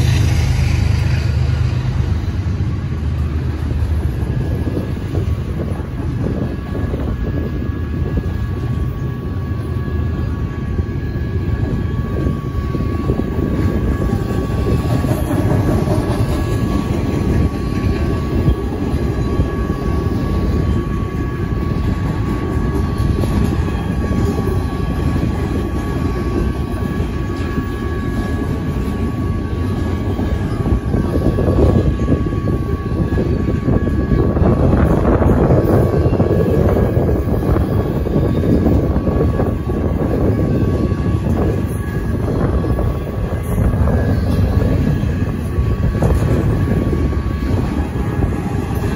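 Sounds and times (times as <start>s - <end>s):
freight train wheels on rail: 0.0s - 48.9s
crossing bell ringing: 4.3s - 48.9s.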